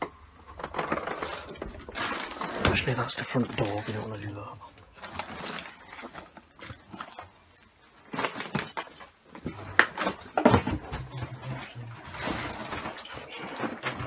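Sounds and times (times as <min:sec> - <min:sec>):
household clutter knocking and rustling: 0:00.0 - 0:14.0.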